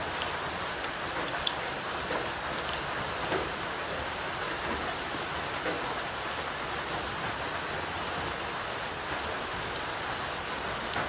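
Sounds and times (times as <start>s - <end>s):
steady rain-like hiss: 0.0s - 11.0s.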